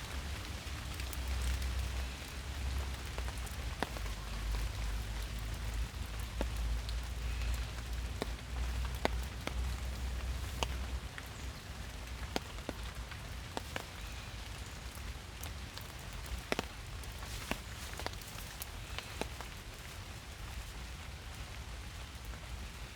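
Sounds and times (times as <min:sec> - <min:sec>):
rain falling in a forest: 0:00.0 - 0:22.9
raindrops tapping close by: 0:00.0 - 0:22.9.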